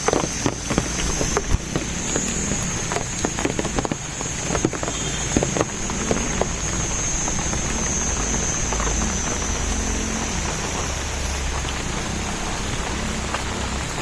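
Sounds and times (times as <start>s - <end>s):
raindrops tapping on surfaces: 0.0s - 14.0s
steady high-pitched tone: 0.0s - 14.0s.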